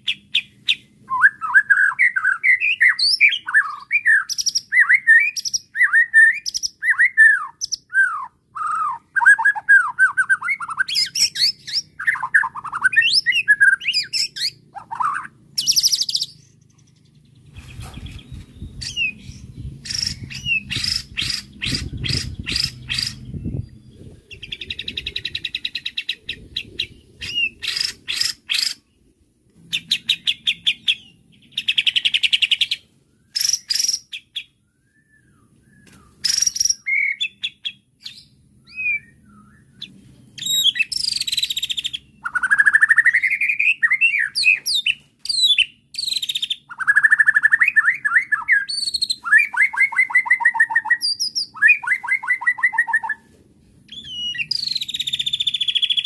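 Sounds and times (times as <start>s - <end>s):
songbird singing trills and whistles: 0.0s - 29.1s, 29.7s - 53.3s, 53.9s - 56.0s.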